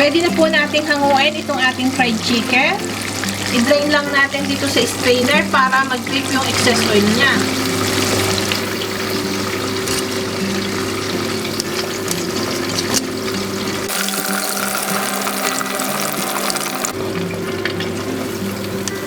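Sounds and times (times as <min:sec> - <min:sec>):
oil sizzling and crackling: 0:00.0 - 0:19.0
soft background music: 0:00.0 - 0:19.0.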